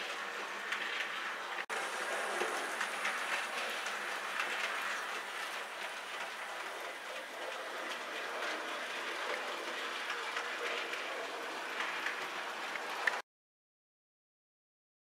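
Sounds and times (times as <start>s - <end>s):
model train running noise: 0.0s - 13.2s
wheel clicks over rail joints: 0.0s - 13.2s.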